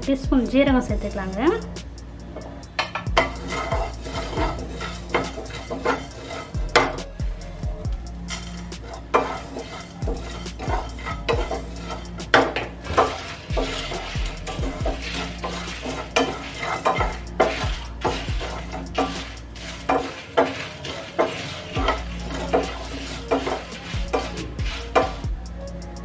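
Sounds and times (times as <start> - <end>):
wooden spatula scraping pan: 2.4 - 7.2, 8.2 - 25.2
seeds rattling against pan: 2.5 - 25.3.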